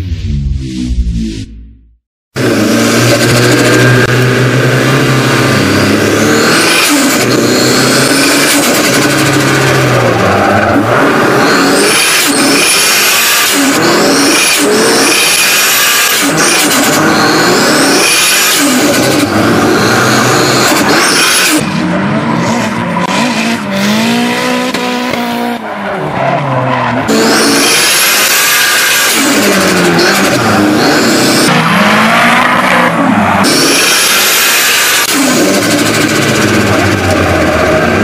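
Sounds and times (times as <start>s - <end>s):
car engine revving: 0.0s - 38.0s
tyres sliding and squealing: 5.4s - 36.3s.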